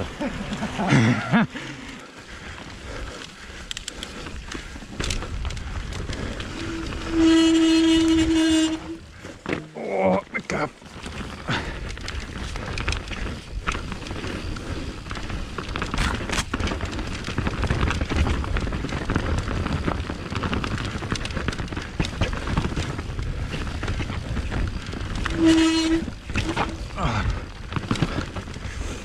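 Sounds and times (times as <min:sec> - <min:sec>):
bike rattling and clicking: 0:00.0 - 0:29.0
wind rumbling on microphone: 0:02.2 - 0:09.5, 0:10.8 - 0:29.0.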